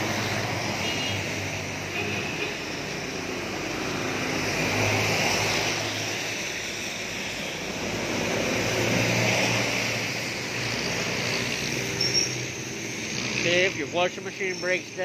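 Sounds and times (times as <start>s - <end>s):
passing vehicle engines: 0.0s - 15.0s
tyres hissing on wet road: 0.0s - 15.0s.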